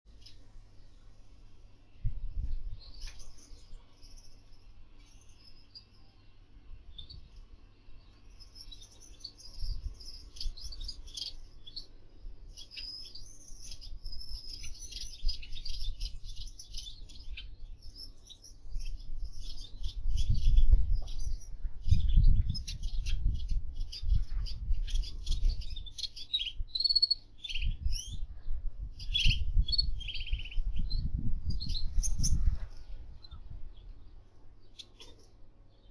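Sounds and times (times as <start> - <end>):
finches chirping and twittering: 1.9 - 35.9.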